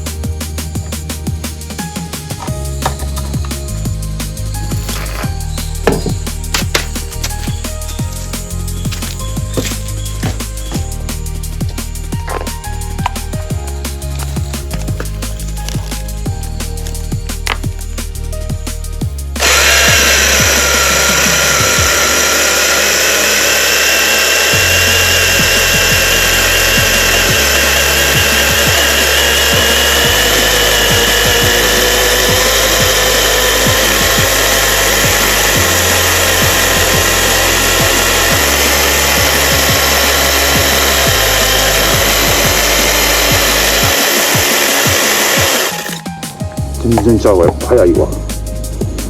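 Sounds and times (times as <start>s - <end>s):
electric chainsaw cutting wood: 0.0s - 18.3s, 19.2s - 46.1s.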